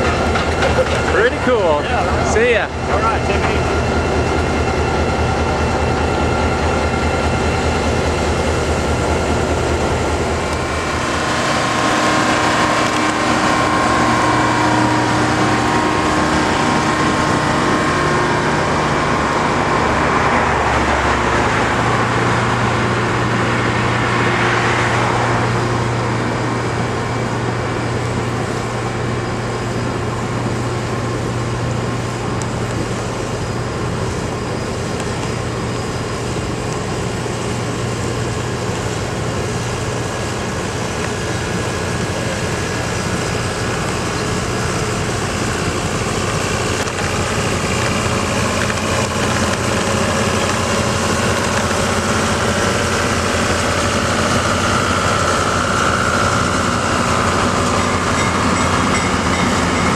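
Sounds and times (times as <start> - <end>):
diesel locomotive engine running: 0.0 - 59.9
train cars rumbling on rails: 0.0 - 59.9.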